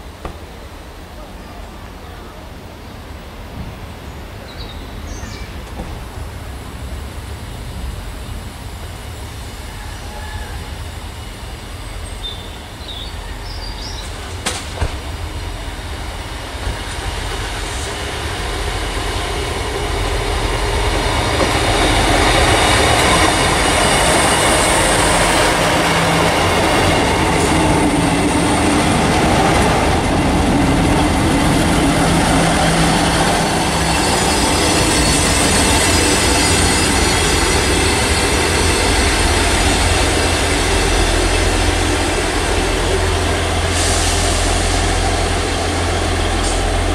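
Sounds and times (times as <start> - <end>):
train wheels clattering on rails: 5.2 - 6.3, 9.7 - 46.9.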